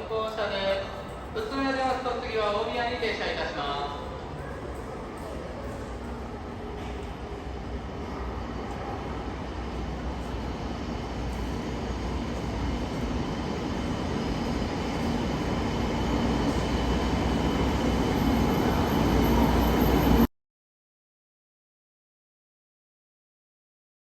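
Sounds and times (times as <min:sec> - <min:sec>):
train running noise: 0:00.0 - 0:20.3.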